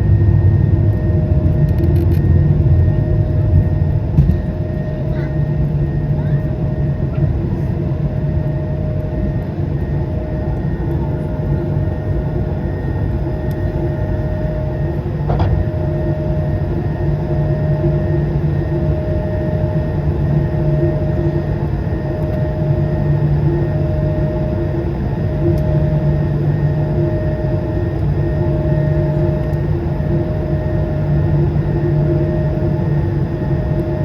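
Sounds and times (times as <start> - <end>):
jet engine roar in cabin: 0.0 - 34.0.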